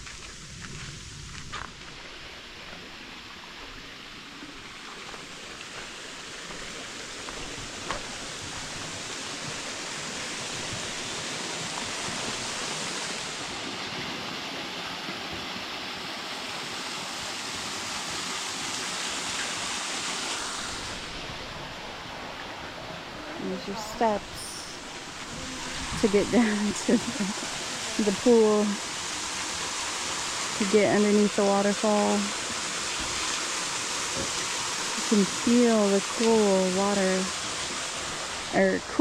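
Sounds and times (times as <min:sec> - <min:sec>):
waterfall rushing into pool: 0:00.0 - 0:39.0.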